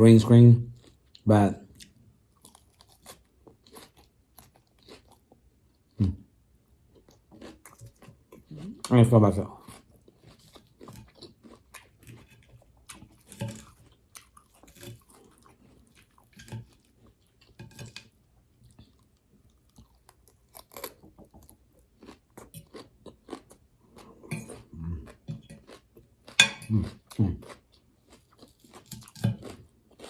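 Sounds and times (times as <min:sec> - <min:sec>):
person chewing crunchy salad: 0:00.8 - 0:06.2, 0:06.9 - 0:30.0.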